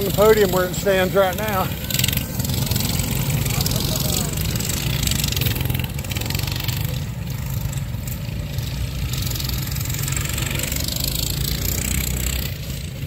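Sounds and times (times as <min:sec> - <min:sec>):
minibike engines running: 0:00.0 - 0:13.0.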